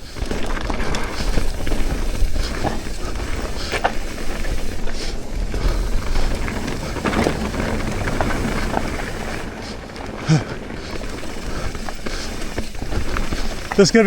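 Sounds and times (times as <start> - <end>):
bike rattles and clicks: 0.0 - 14.0
tyres rumbling on dirt: 0.0 - 14.0.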